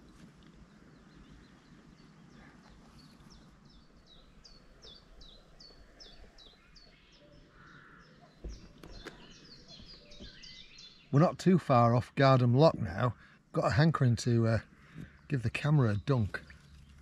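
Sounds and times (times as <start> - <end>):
low steady hiss: 0.0 - 8.0, 8.8 - 17.0
small bird singing: 0.0 - 17.0.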